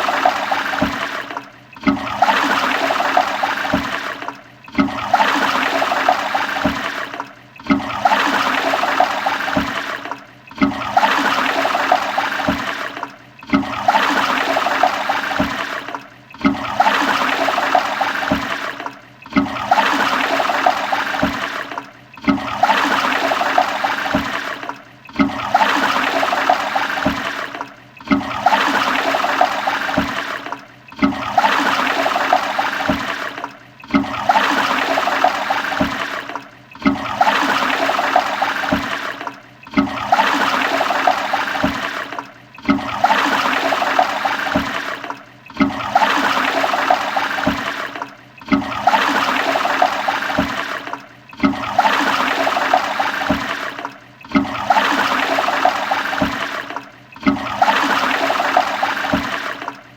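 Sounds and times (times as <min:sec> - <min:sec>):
toilet flushing: 0:00.0 - 0:59.9.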